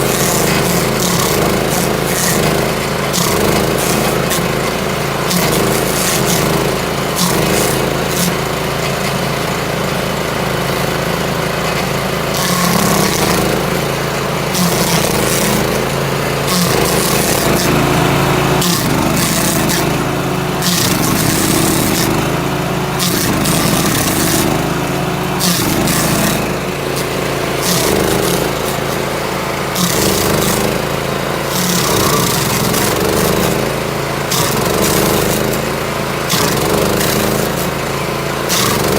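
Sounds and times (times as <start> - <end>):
grinding hiss: 0.0 - 38.9
stump grinder engine: 0.0 - 38.9.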